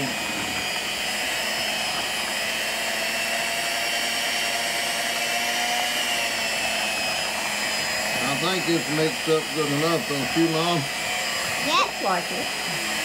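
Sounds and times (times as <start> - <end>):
electric hand mixer whining: 0.0 - 13.0.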